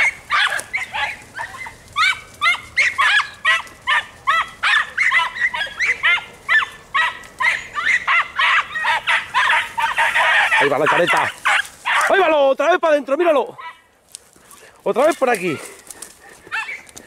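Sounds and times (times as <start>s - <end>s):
dogs barking and yelping: 0.0s - 12.3s, 13.5s - 14.0s, 15.4s - 17.0s.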